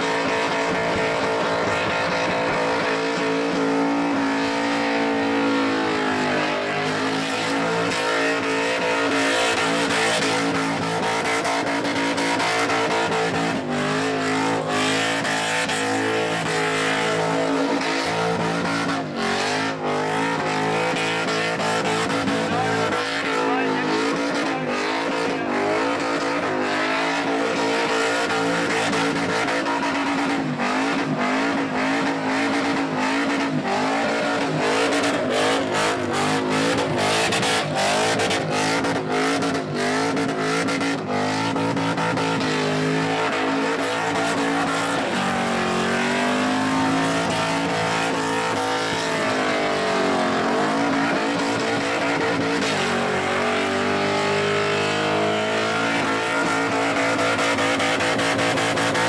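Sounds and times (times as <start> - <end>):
car engine revving high: 0.0 - 59.0.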